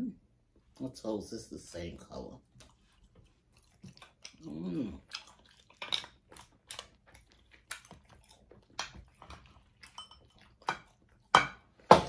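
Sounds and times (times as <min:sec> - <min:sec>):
chewing and wet smacking: 0:02.1 - 0:12.0.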